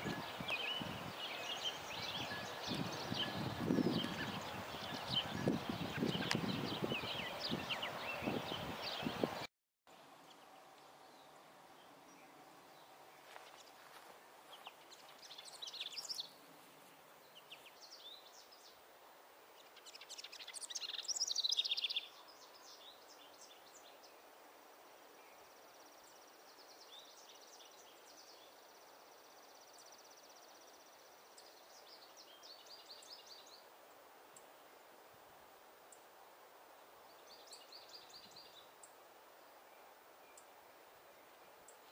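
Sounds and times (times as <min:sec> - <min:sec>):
faint outdoor background noise: 0:00.0 - 0:41.9
songbirds chirping: 0:00.0 - 0:41.9.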